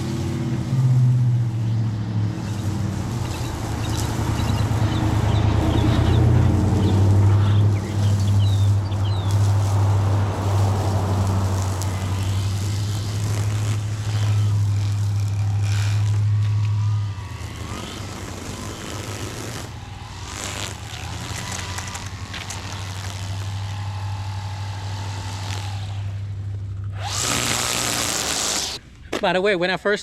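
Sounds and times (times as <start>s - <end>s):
lawn equipment motor humming: 0.0s - 28.8s.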